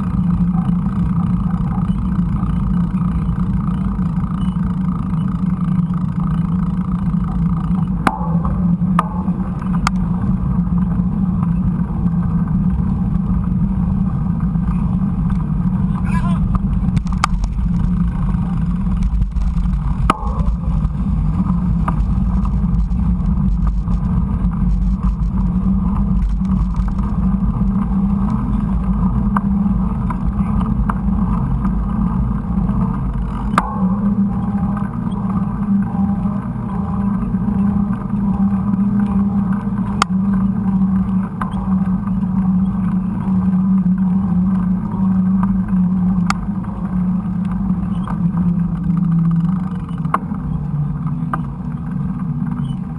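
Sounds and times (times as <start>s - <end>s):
bike tyres on dirt trail: 0.0s - 52.9s.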